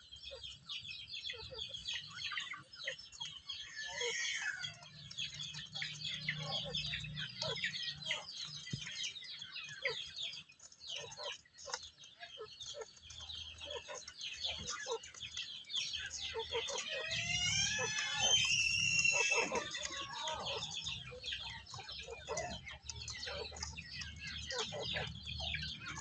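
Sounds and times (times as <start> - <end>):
chickens clucking: 0.0 - 26.0
high chirping calls: 0.0 - 26.0.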